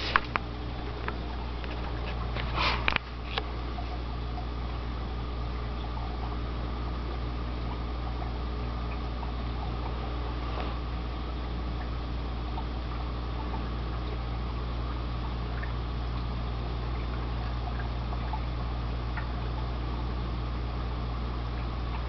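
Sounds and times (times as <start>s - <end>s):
fish tank equipment humming: 0.0s - 22.0s
water bubbling and trickling: 0.0s - 22.0s.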